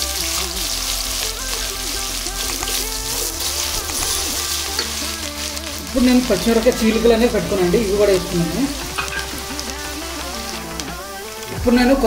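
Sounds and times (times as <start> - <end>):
background music: 0.0 - 12.0
onions sizzling in hot oil: 0.0 - 12.0
wooden spatula stirring: 0.0 - 12.0.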